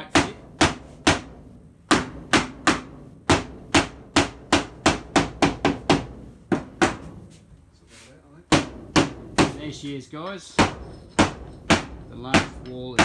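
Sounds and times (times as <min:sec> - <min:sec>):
hammer blows on timber: 0:00.0 - 0:07.4, 0:08.5 - 0:09.9, 0:10.6 - 0:13.0.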